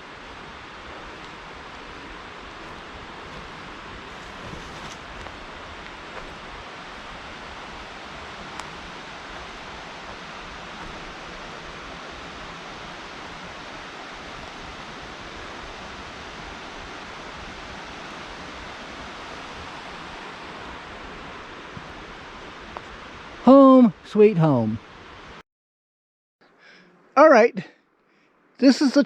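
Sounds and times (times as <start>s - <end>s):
river water rushing: 0.0s - 23.8s.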